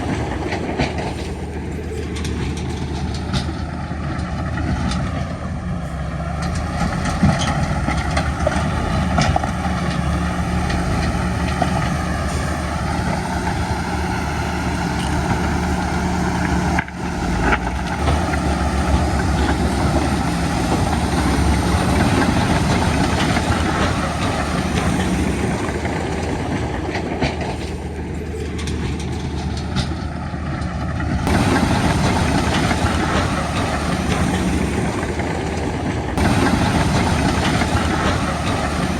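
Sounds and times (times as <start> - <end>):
heavy diesel engines droning: 0.0 - 38.9
scattered clanks: 0.0 - 38.9.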